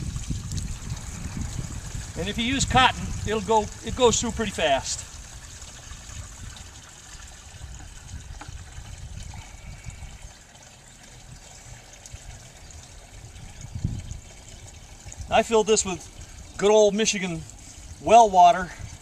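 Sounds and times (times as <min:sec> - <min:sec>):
water pouring into a bucket: 0:00.0 - 0:19.0.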